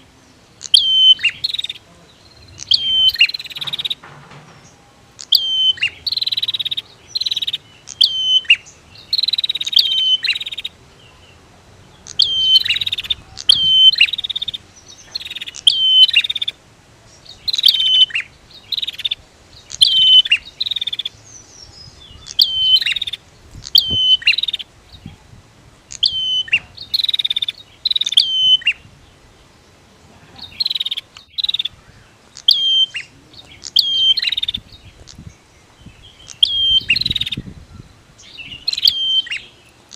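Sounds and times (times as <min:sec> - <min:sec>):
bird sharp chirping notes: 0:00.0 - 0:25.2, 0:25.8 - 0:29.8, 0:30.4 - 0:39.9.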